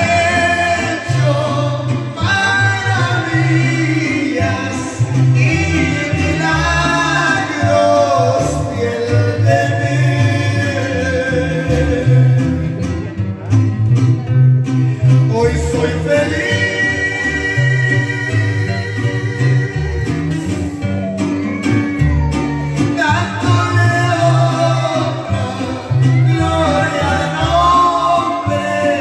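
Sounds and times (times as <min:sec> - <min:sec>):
man singing into microphone: 0:00.0 - 0:13.1, 0:14.9 - 0:20.6, 0:21.5 - 0:29.0
bass guitar notes: 0:00.0 - 0:29.0
string group playing: 0:00.0 - 0:29.0
strummed guitars: 0:00.0 - 0:29.0.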